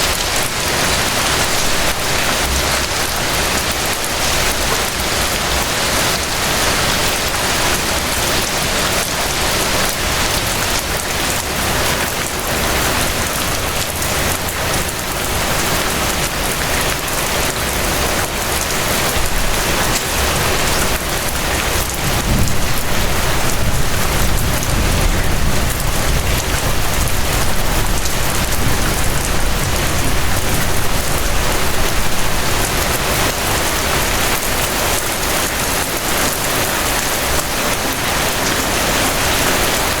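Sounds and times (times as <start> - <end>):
steady dense rain: 0.0 - 40.0.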